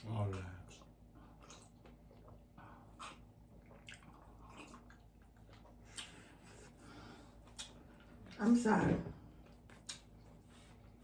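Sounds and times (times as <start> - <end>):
person chewing food: 0.0 - 8.4, 9.4 - 11.0.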